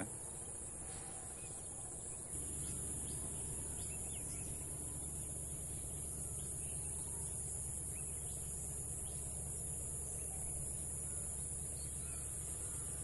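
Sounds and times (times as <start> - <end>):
faint bird chirps: 0.0 - 13.0
insect chorus: 0.0 - 13.0
low outdoor rumble: 0.0 - 13.0.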